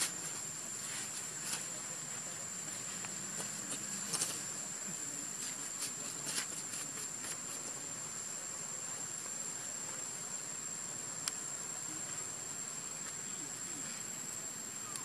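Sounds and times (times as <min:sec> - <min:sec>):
soft outdoor hiss: 0:00.0 - 0:15.0.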